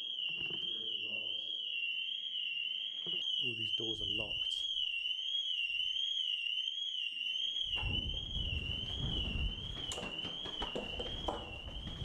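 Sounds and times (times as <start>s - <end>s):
alarm sounder electronic warble: 0.0s - 12.0s.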